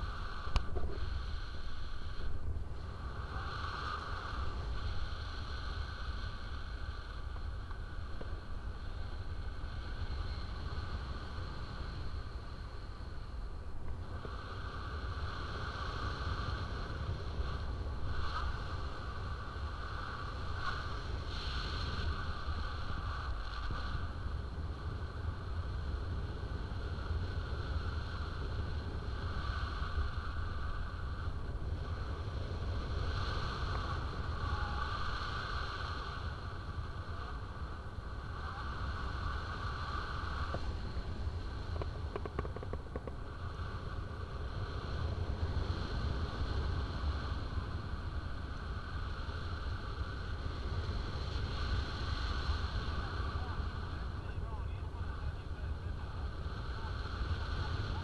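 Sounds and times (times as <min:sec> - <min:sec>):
rushing hiss of air: 0:00.0 - 0:24.4, 0:25.2 - 0:42.1, 0:43.3 - 0:54.2
wind buffeting microphone: 0:00.0 - 0:54.6.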